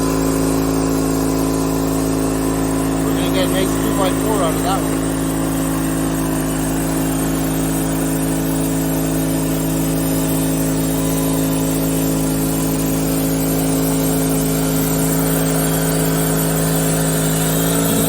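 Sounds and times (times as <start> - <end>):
band sawmill engine running: 0.0 - 18.0.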